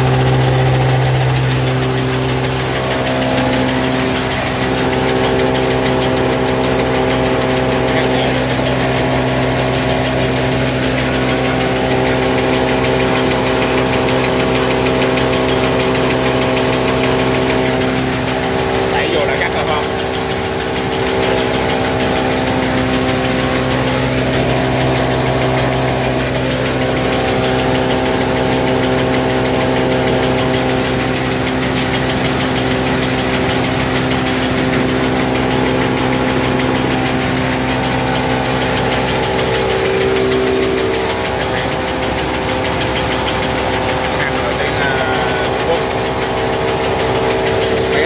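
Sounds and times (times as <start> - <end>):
machine motors humming: 0.0 - 48.0.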